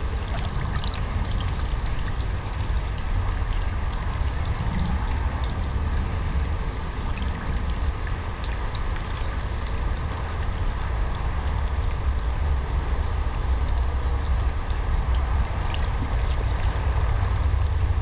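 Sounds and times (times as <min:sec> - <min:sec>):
low rumble: 0:00.0 - 0:18.0
water sloshing and trickling: 0:00.0 - 0:18.0.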